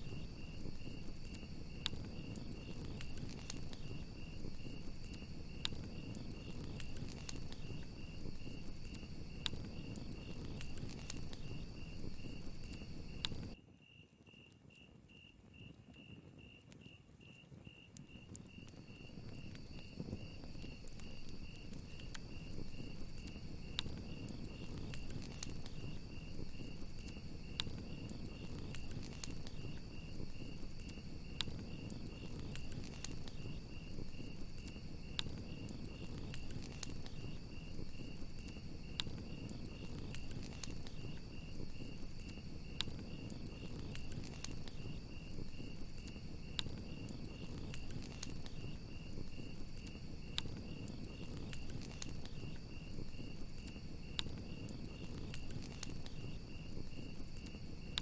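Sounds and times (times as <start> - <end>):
campfire crackling and popping: 0.0 - 13.6, 15.0 - 58.0
crickets chirping: 0.0 - 58.0.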